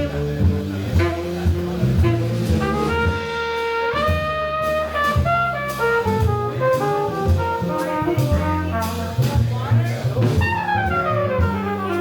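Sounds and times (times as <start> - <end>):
jazz band playing: 0.0 - 12.0
horn holding long notes: 0.1 - 9.2, 10.5 - 12.0.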